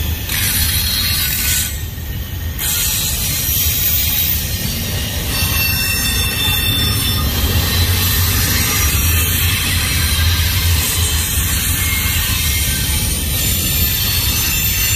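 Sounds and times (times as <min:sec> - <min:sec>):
freight train rumble: 0:00.0 - 0:14.9
train wheels squealing on rails: 0:00.0 - 0:14.9.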